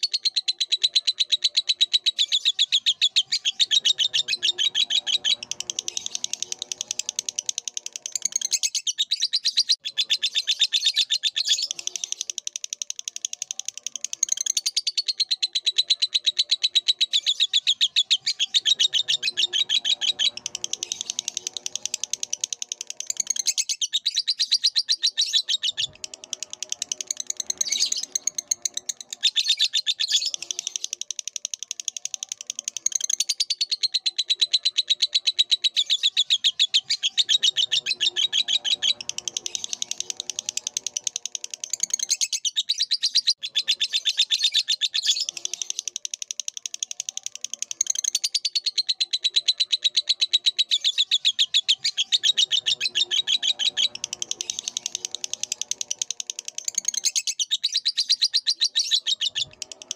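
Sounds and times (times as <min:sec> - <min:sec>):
lovebird chattering trill: 0:00.0 - 0:59.9.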